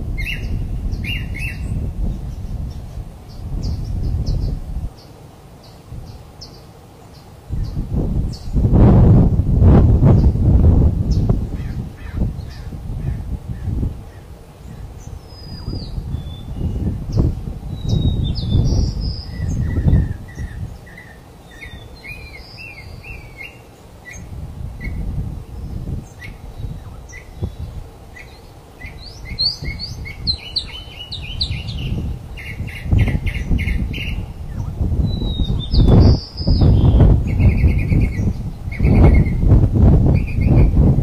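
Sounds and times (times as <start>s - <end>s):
small birds chirping: 0.0s - 8.7s, 10.0s - 40.9s.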